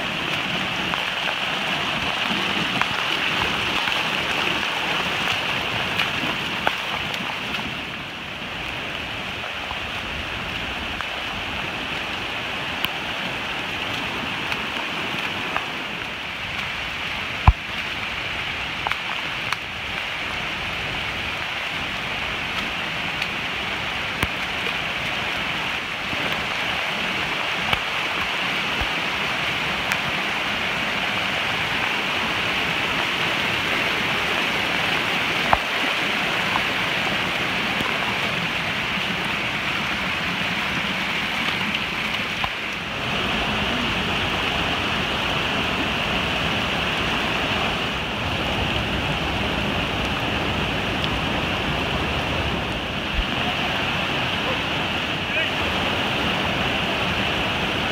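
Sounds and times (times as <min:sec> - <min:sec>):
fast-flowing stream water: 0:00.0 - 0:57.9
rain: 0:00.0 - 0:57.9.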